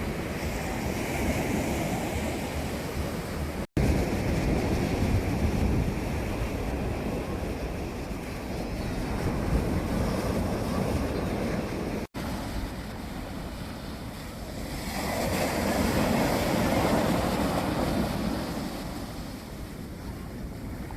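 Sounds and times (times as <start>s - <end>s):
sea waves breaking on shore: 0.0s - 20.9s
wind on microphone: 0.0s - 20.9s.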